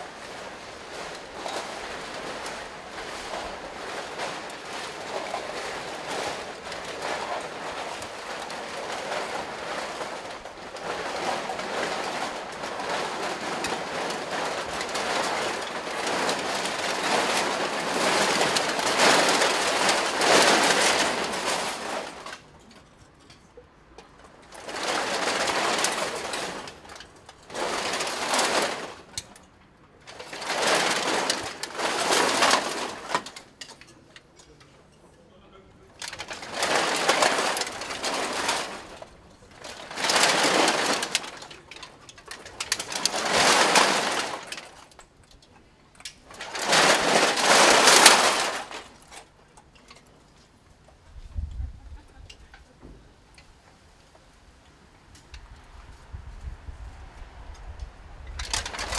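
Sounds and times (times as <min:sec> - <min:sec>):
drink cans rattling together: 0:00.0 - 0:23.2, 0:24.3 - 0:34.6, 0:35.9 - 0:50.3, 0:58.3 - 0:58.9.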